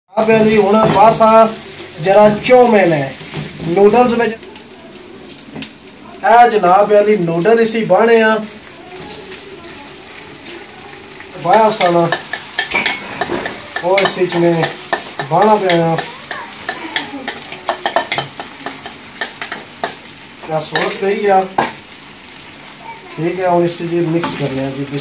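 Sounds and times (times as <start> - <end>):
light sizzle: 0.1 - 25.0.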